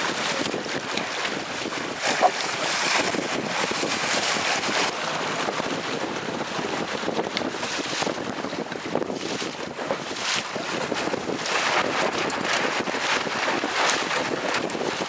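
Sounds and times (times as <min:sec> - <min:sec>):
choppy sea water slapping: 0:00.0 - 0:15.0
wind buffeting microphone: 0:00.0 - 0:15.0.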